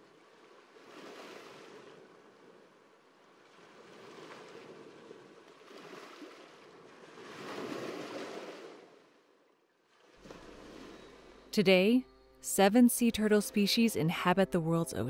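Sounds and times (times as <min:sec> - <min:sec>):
sea waves washing: 0:00.0 - 0:13.7.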